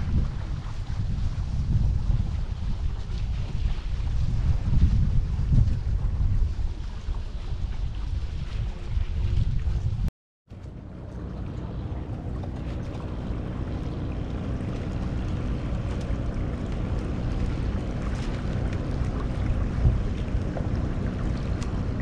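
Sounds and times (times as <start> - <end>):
wind and water rushing along hull: 0.0 - 22.0
wind buffeting microphone: 0.0 - 22.0.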